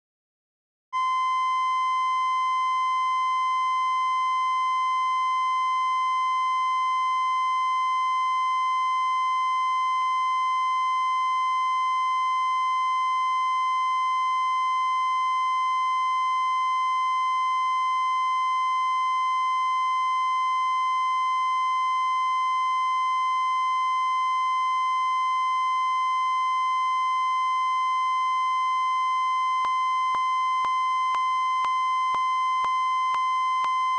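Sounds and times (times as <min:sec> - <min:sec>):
steady test tone beep: 0:01.0 - 0:33.9.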